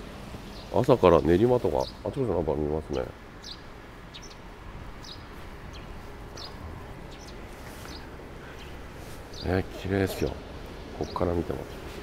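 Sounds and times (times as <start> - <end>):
steady low background noise: 0.0 - 12.0
small birds chirping: 0.4 - 12.0.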